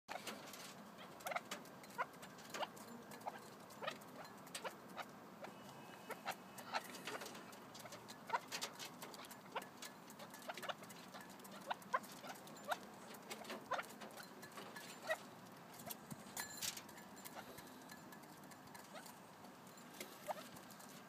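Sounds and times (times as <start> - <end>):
birds pecking grain from a bowl: 0.1 - 21.0.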